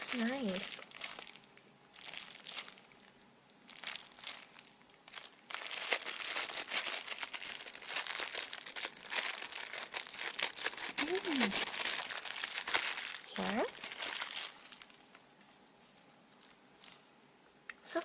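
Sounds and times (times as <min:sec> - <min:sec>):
plastic packaging crinkling: 0:00.0 - 0:15.3, 0:16.3 - 0:17.1.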